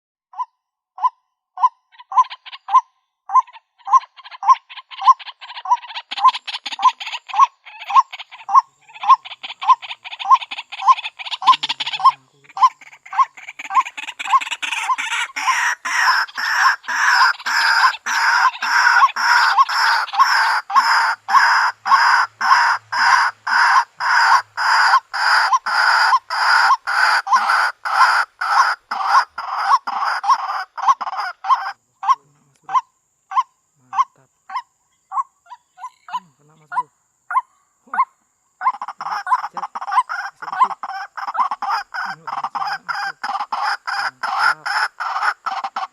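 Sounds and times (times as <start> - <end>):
waterhen kwak calls: 1.0 - 45.9.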